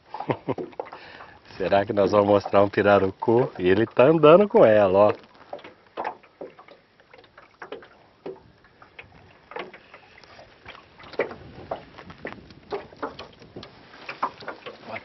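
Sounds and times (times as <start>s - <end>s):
ripples lapping against metal hull: 0.0s - 15.0s.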